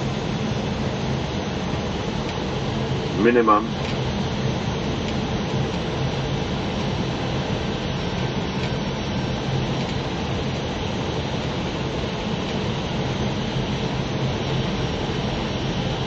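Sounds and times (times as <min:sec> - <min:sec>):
jet engines low hum: 0:00.0 - 0:16.0
rush of airflow in cockpit: 0:00.0 - 0:16.0.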